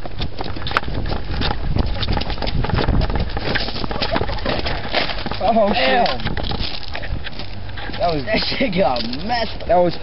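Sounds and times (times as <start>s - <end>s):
fire crackling and popping: 0.0s - 9.7s.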